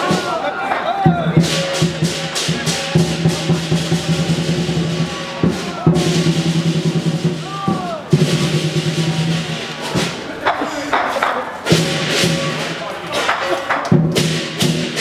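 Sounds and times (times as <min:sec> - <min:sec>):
cymbals clashing: 0:00.0 - 0:15.0
drum beating fast: 0:00.0 - 0:15.0.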